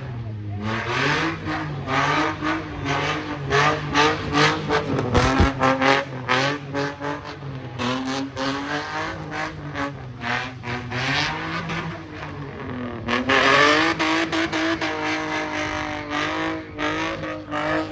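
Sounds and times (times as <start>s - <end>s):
car engine revving hard: 0.0s - 17.9s.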